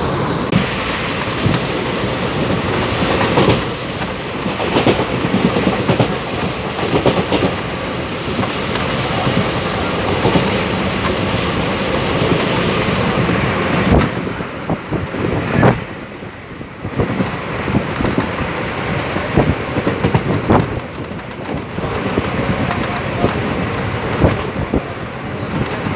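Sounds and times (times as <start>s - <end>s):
train rumbling on tracks: 0.0s - 25.9s
sharp knocks of train wheels: 0.6s - 25.9s.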